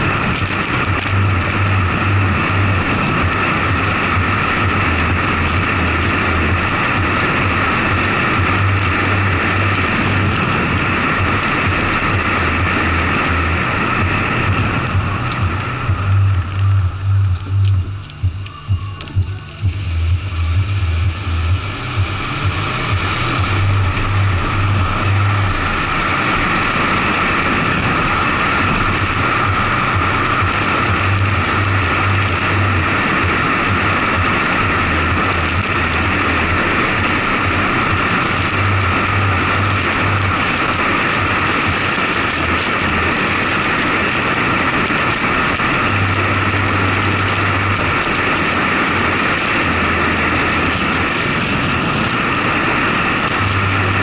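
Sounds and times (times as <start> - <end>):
low rumble: 0.0 - 54.0
tyre noise on road: 0.0 - 54.0
wind rush: 0.0 - 54.0.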